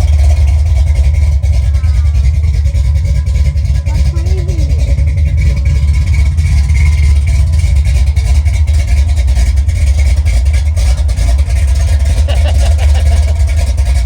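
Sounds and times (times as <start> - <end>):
lumpy engine idling: 0.0 - 14.0.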